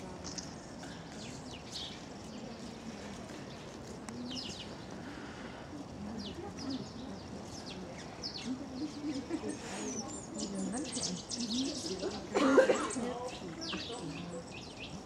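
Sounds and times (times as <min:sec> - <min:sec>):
distant voices murmuring: 0:00.0 - 0:15.0
small birds chirping: 0:00.0 - 0:15.0.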